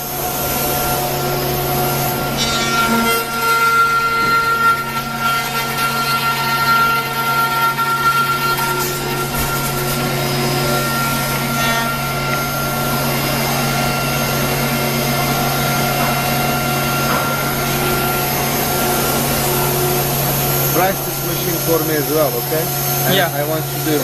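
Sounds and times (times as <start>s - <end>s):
router machine hum and whine: 0.0s - 24.0s.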